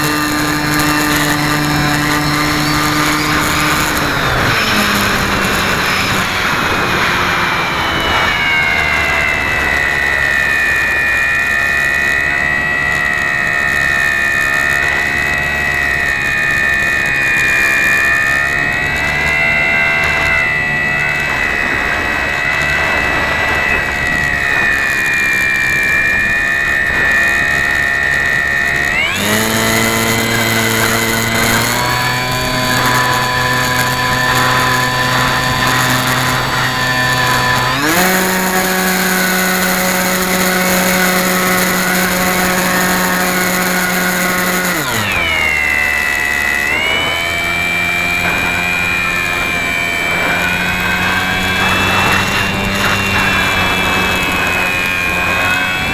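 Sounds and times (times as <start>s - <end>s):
model airplane motor whine: 0.0s - 55.9s.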